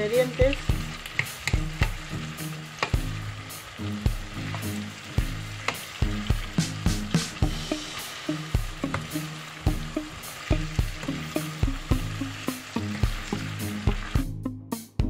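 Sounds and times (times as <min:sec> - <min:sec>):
vegetables sizzling in oil: 0:00.0 - 0:14.4.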